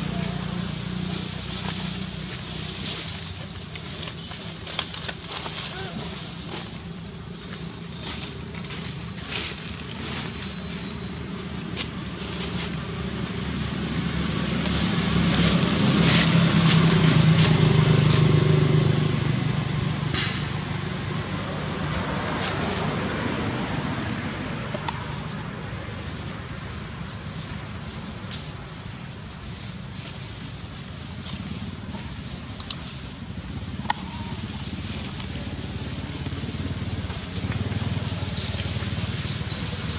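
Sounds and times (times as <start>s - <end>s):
vehicle passing: 0.0s - 39.9s.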